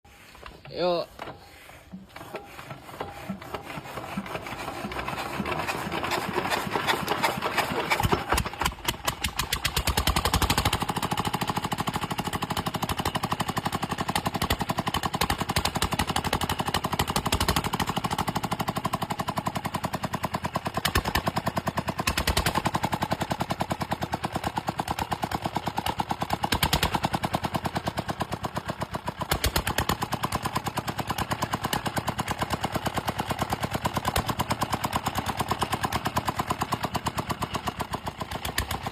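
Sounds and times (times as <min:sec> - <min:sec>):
diesel engine knocking exhaust: 0:03.3 - 0:38.9.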